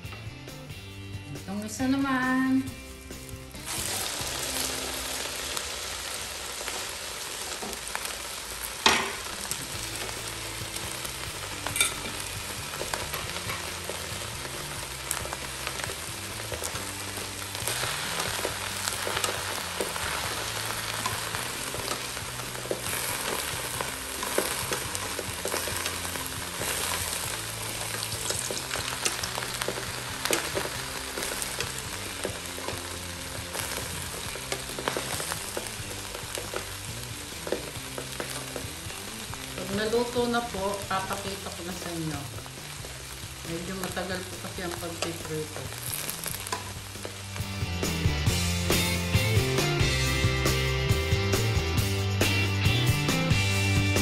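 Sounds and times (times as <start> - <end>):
oil sizzling in a wok: 0.0 - 54.0.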